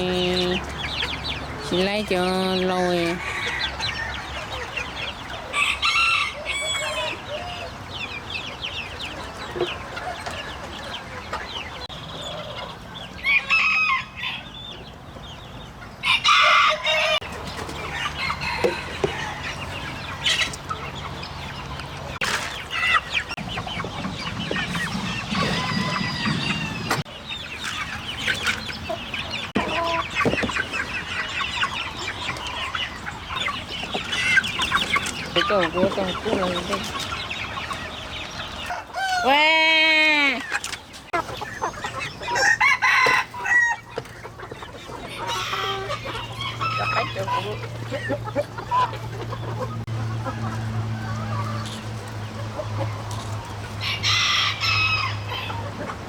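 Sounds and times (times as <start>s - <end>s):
chickens clucking: 0.0s - 56.0s
roosters crowing: 0.0s - 56.0s.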